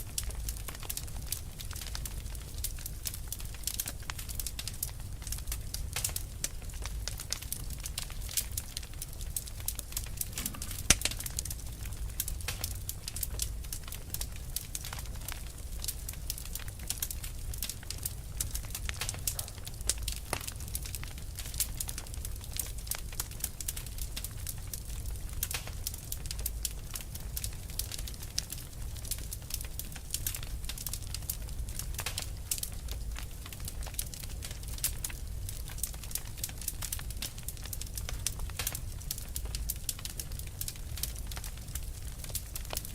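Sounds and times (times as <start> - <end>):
fire crackling and popping: 0.0 - 42.9.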